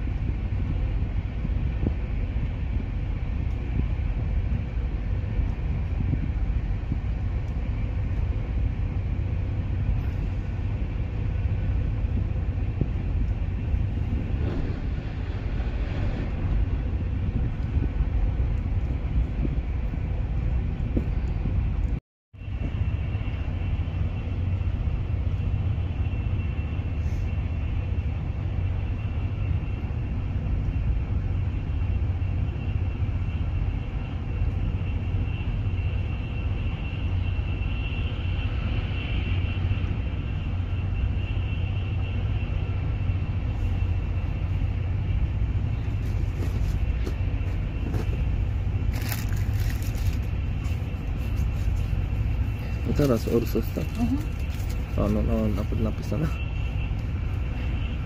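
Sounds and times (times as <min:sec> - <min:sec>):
faint high whine: 0:00.0 - 0:58.0
train wheels rumbling on track: 0:00.0 - 0:58.0.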